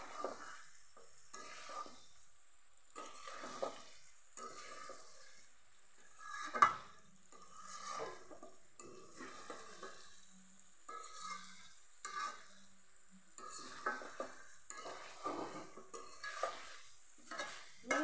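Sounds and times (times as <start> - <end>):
metal spatula scraping a pan: 0.0 - 2.3, 3.0 - 18.0
curry sizzling in oil: 0.0 - 18.0.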